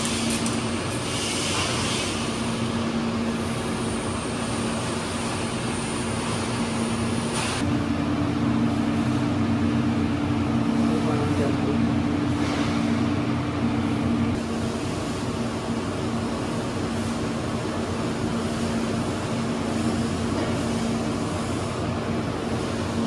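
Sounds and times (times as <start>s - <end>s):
fan noise: 0.0s - 23.0s
low electrical hum: 0.0s - 23.0s.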